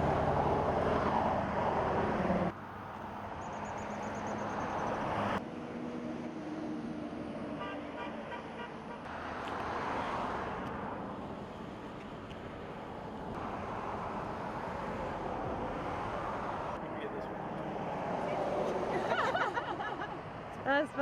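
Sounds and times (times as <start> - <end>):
vehicles passing by: 0.0 - 21.0.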